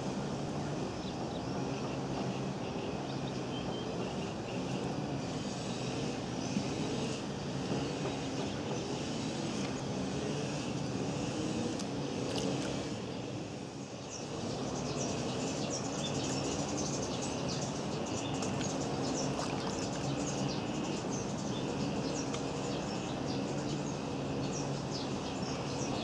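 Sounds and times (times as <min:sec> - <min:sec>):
steady low hum: 0:00.0 - 0:26.0
small birds chirping: 0:00.4 - 0:26.0.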